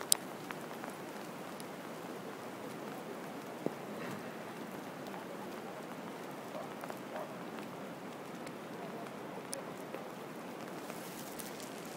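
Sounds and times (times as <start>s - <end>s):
raindrop ticks: 0.0s - 11.9s
steady rain: 0.0s - 11.9s.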